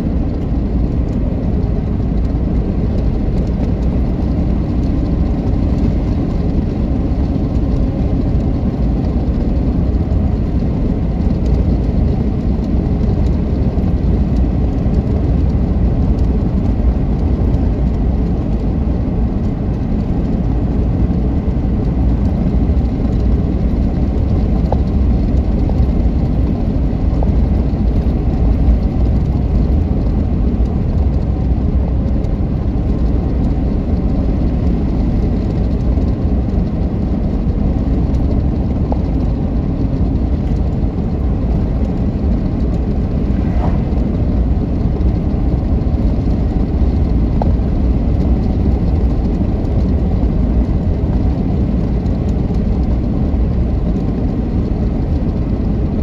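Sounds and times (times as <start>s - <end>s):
car tyre and engine rumble: 0.0s - 56.0s.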